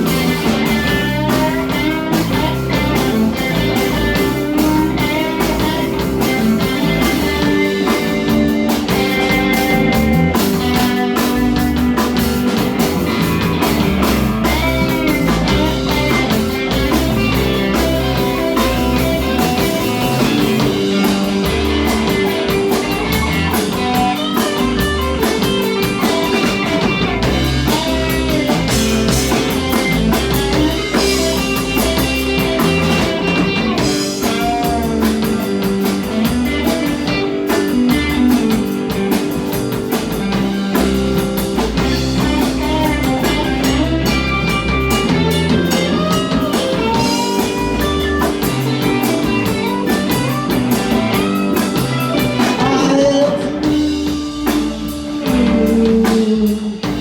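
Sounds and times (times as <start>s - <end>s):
drum kit: 0.0s - 57.0s
guitar: 0.0s - 57.0s.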